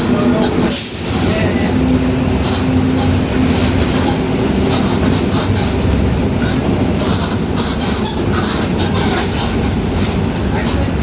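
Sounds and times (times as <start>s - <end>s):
bus body rattling: 0.0s - 11.0s
bus diesel drone: 0.0s - 11.0s.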